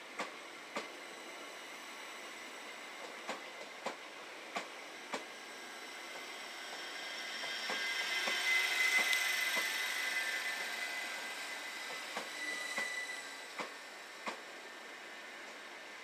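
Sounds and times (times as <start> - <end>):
electric train hiss and whine: 0.0 - 16.0.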